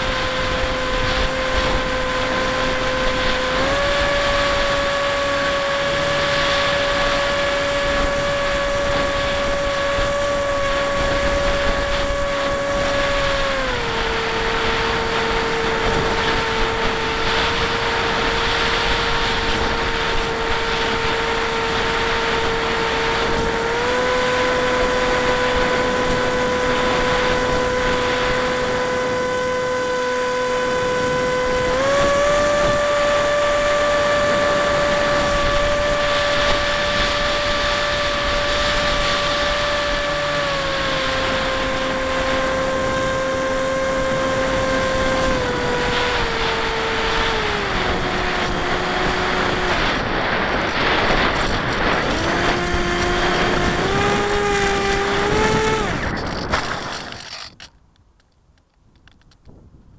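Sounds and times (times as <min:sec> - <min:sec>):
electric motor and propeller whining: 0:00.0 - 0:57.8.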